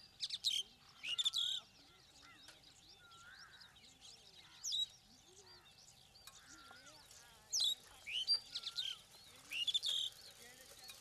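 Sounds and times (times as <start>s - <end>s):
loud sharp bird calls: 0.0s - 10.9s
birds whistling and chirping: 0.0s - 11.0s.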